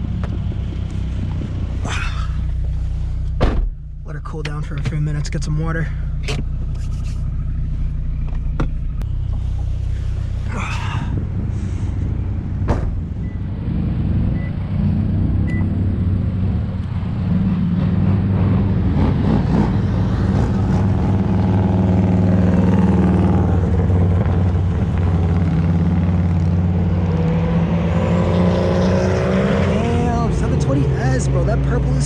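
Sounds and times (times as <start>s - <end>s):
car engine humming: 0.0s - 32.0s.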